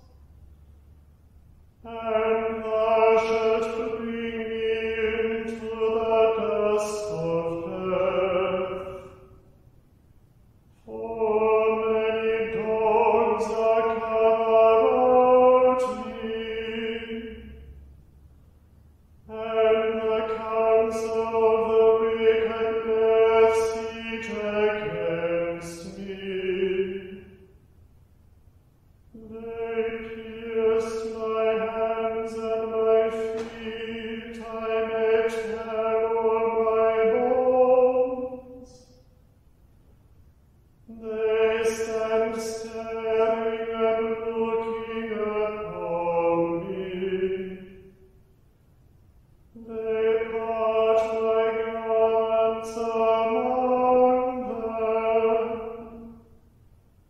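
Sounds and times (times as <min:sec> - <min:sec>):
plainsong chant: 0:00.0 - 0:27.8, 0:29.0 - 0:57.0.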